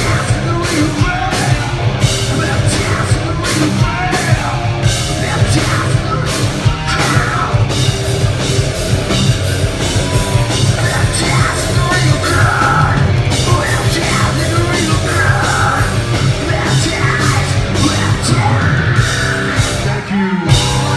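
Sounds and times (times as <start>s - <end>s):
person shouting and singing: 0.0s - 7.9s, 9.9s - 20.9s
bass guitar: 0.0s - 20.9s
distorted electric guitar: 0.0s - 20.9s
drum kit: 0.0s - 20.9s.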